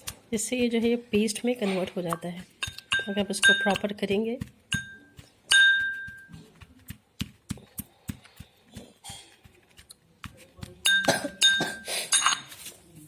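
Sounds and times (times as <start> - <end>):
utensil pounding paste: 0.0 - 11.8.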